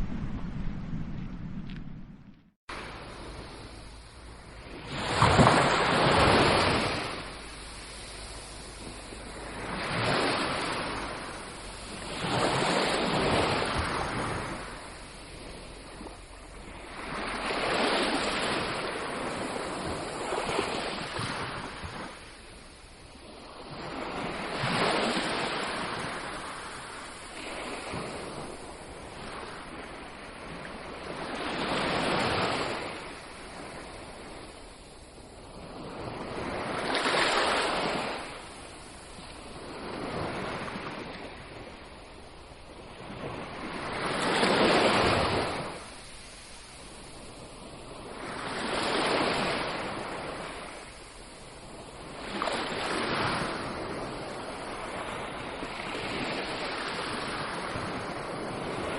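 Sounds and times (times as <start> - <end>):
ocean waves breaking on beach: 2.7 - 58.9.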